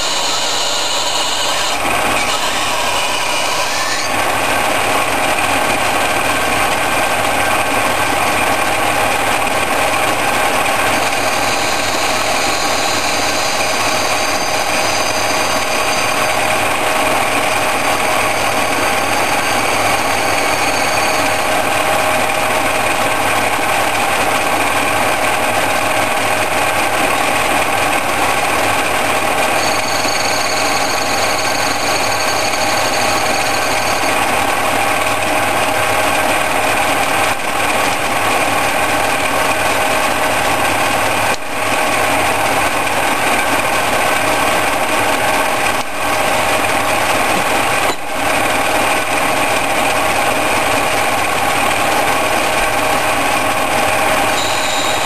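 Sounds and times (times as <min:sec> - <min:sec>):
high-pitched whine: 0:00.0 - 0:55.0
lathe mechanical whine: 0:00.0 - 0:55.0.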